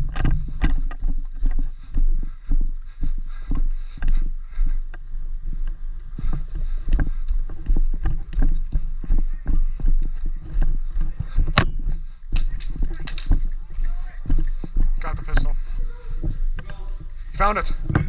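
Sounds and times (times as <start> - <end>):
footsteps and gear rustling: 0.0 - 18.0
wind rumble on microphone: 0.0 - 18.0.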